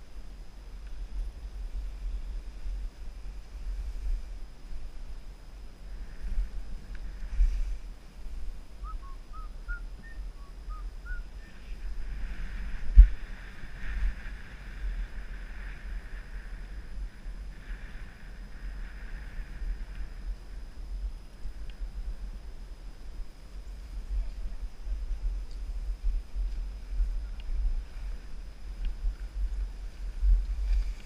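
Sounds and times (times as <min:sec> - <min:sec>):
wind rumbling on microphone: 0:00.0 - 0:31.0
skis sliding over packed snow: 0:00.3 - 0:09.0, 0:11.4 - 0:21.5, 0:23.6 - 0:31.0.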